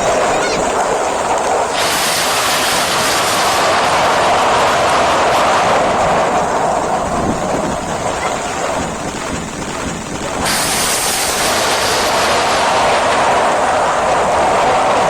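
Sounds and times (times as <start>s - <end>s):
heavy rain: 0.0s - 15.0s
wind buffeting microphone: 0.0s - 15.0s.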